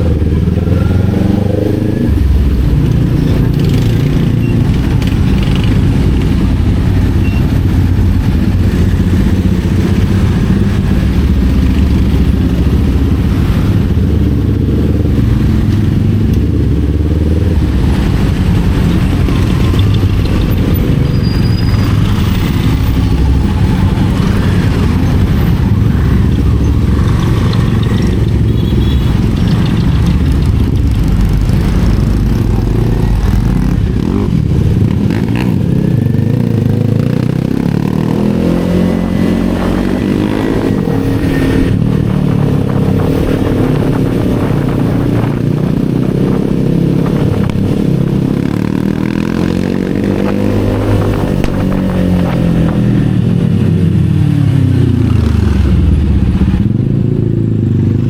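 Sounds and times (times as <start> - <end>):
motorcycle engine revving: 0.0 - 58.0
rushing wind noise: 0.0 - 58.0.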